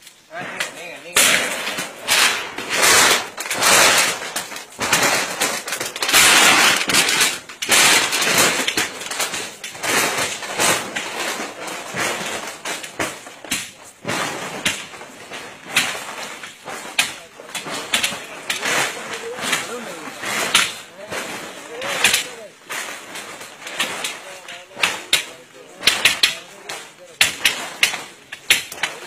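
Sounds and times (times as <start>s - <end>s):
metal fence sheets rasping and crashing: 0.1s - 29.0s.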